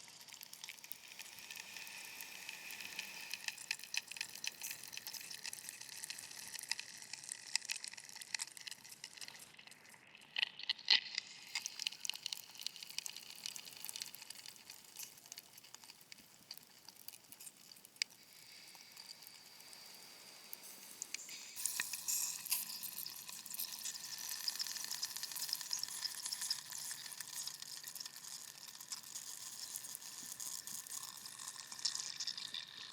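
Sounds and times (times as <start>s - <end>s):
fine crackling and hissing: 0.0s - 32.9s.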